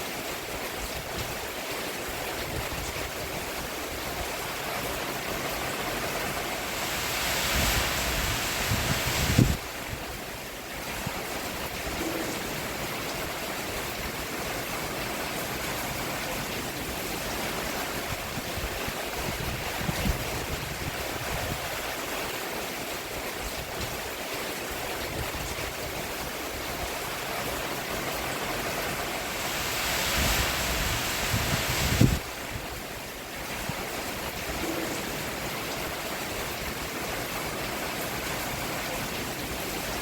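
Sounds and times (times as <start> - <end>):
rain on a roof: 0.0 - 40.0.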